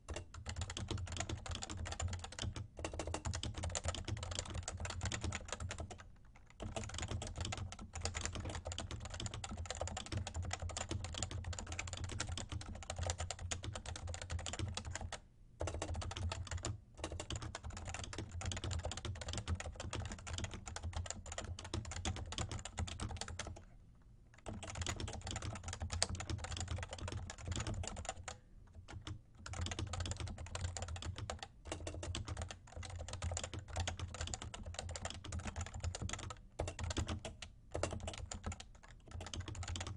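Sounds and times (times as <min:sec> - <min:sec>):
fast typing on keyboard: 0:00.1 - 0:23.6, 0:24.4 - 0:39.9.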